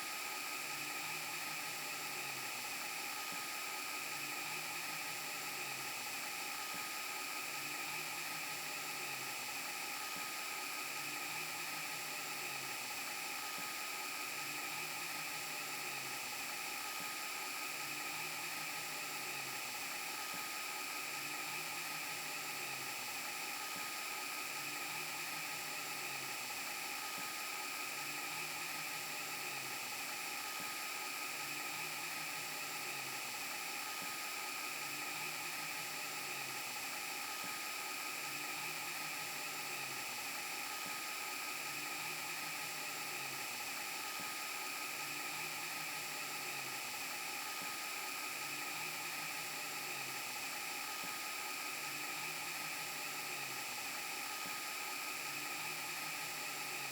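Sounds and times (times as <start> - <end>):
whirring hiss: 0.0 - 56.9.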